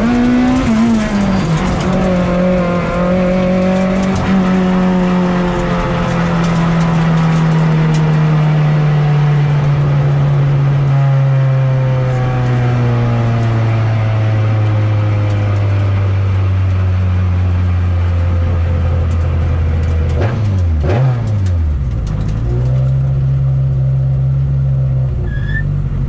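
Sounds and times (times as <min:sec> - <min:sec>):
car engine from inside cabin: 0:00.0 - 0:26.0.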